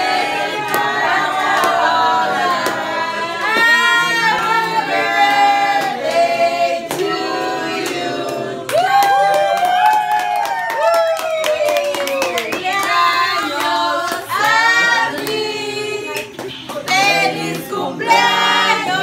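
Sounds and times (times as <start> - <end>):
group singing birthday song: 0.0 - 9.0, 12.3 - 19.0.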